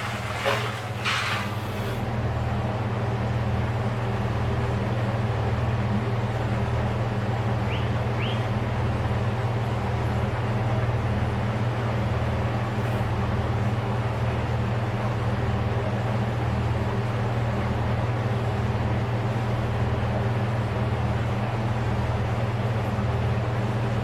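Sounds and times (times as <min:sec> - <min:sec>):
engine droning at low speed: 0:00.0 - 0:24.0.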